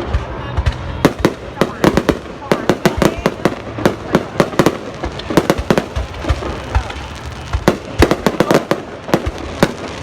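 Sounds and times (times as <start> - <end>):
fireworks bangs: 0.0 - 10.0
rumble of distant fireworks: 0.0 - 10.0.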